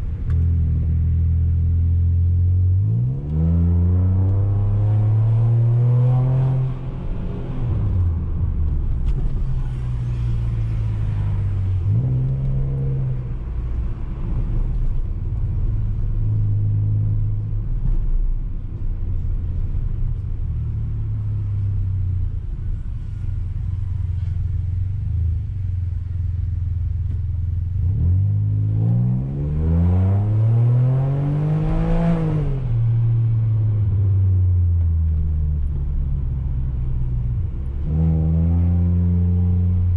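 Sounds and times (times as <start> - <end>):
car engine and exhaust revving: 0.0 - 39.9.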